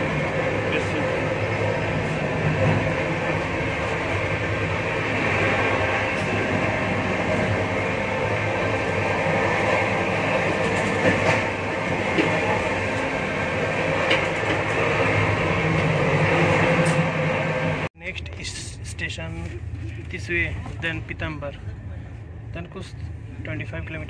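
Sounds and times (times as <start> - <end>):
train rumble and rattle: 0.0 - 24.0.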